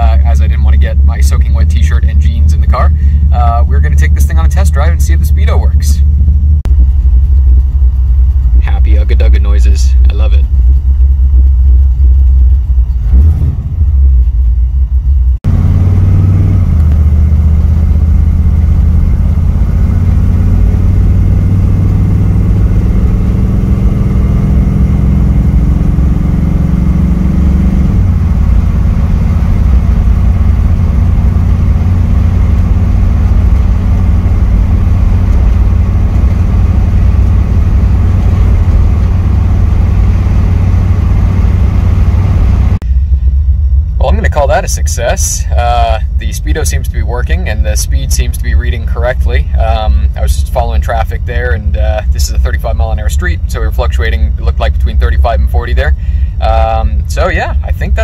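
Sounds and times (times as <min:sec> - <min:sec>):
car accelerating and cruising: 0:00.0 - 0:58.0
car engine rumbling: 0:00.0 - 0:58.0.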